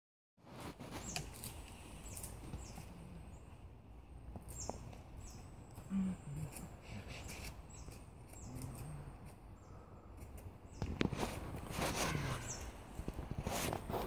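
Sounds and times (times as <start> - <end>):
outdoor background noise: 0.4 - 14.0
high falling bird chirps: 0.9 - 13.5.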